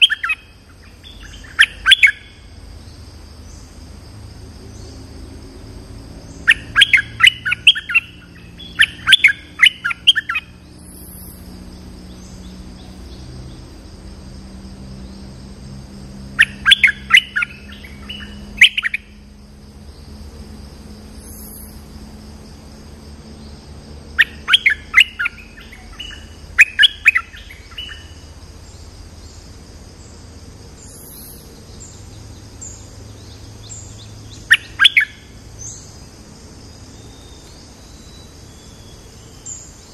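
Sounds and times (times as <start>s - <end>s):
bird singing rapid notes: 0.0s - 3.8s, 6.2s - 13.8s, 16.3s - 20.2s, 21.1s - 21.9s, 23.4s - 30.1s, 30.7s - 39.9s.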